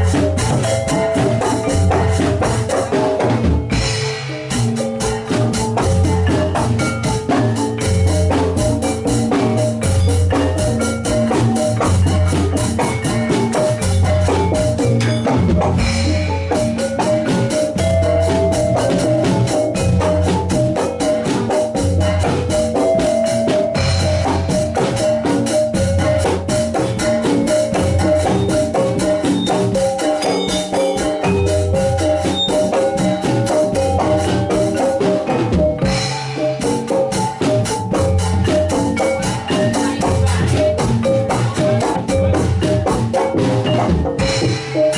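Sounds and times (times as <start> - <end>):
metal mallet instruments melody: 0.0 - 44.9.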